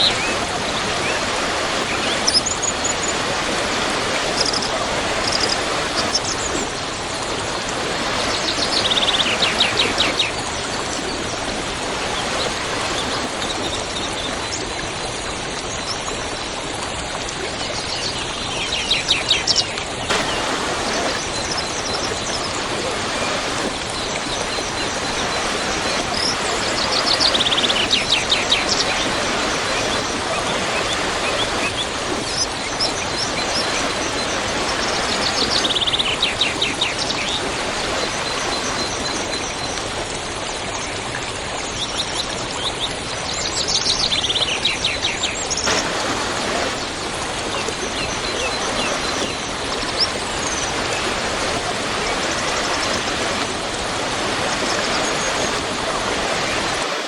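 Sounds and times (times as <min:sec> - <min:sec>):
waterfall rushing: 0:00.0 - 0:41.6, 0:44.2 - 0:57.0.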